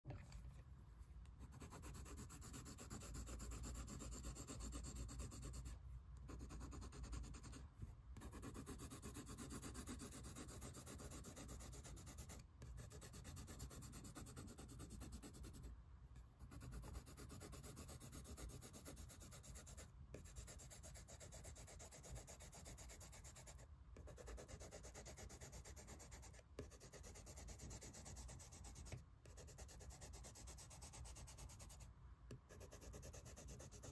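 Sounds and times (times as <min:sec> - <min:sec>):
pencil scratching on paper: 0:01.4 - 0:07.6, 0:08.2 - 0:15.7, 0:16.4 - 0:33.9.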